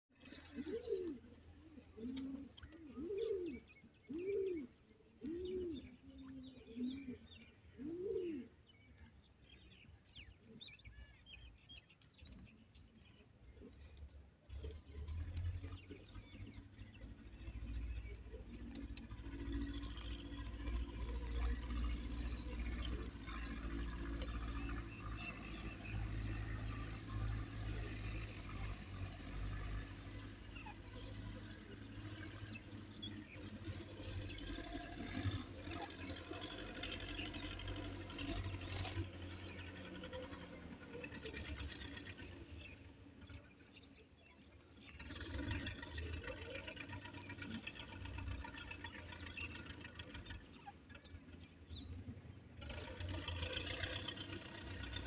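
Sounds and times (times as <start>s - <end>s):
small birds chirping: 0.1s - 55.0s
low arched bird calls: 0.2s - 55.0s.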